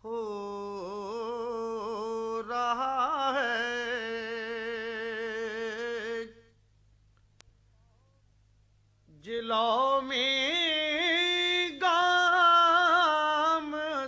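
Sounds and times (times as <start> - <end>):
man singing unaccompanied: 0.0 - 6.5, 9.1 - 14.0.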